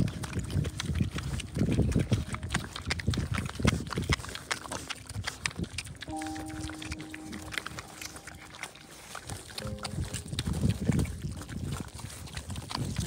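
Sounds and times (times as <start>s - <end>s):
piglets chewing and smacking: 0.0s - 13.0s.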